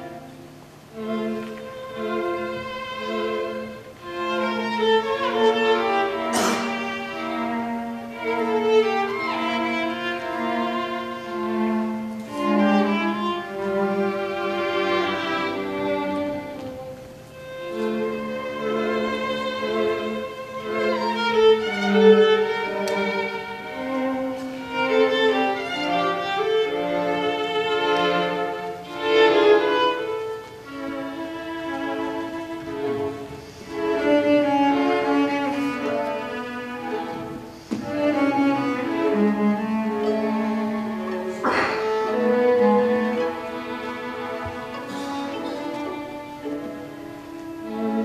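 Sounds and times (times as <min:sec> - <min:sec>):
string quartet playing: 0:00.0 - 0:48.0.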